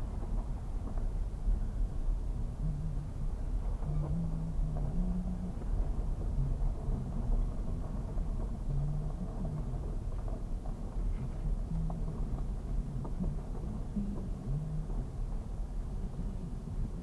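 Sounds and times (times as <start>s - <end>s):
car road and engine rumble: 0.0s - 17.0s
low hum: 0.0s - 17.0s.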